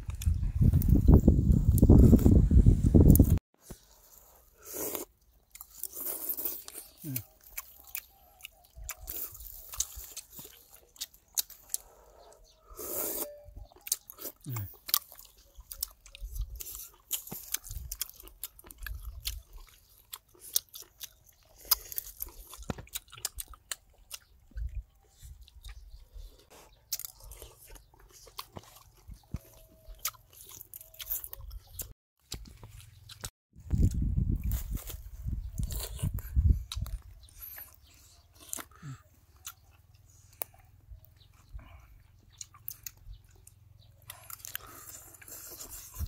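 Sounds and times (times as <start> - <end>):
person chewing and crunching: 0.0 - 2.3, 3.1 - 46.0.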